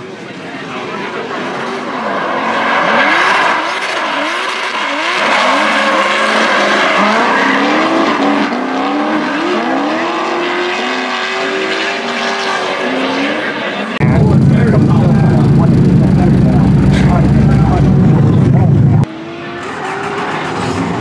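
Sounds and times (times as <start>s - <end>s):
car engines revving hard: 1.2s - 21.0s.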